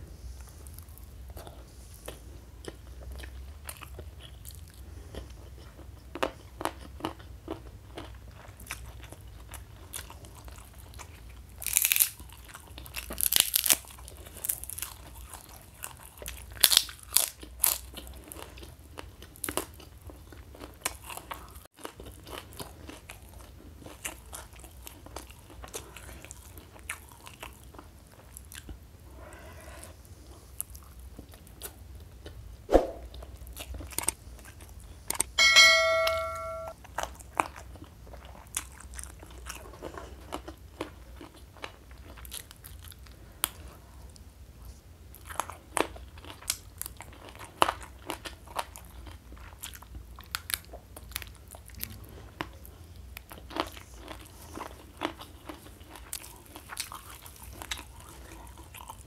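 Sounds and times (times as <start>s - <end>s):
person chewing crunchy food: 0.7s - 28.8s, 33.1s - 35.4s, 36.8s - 43.7s, 45.1s - 59.0s.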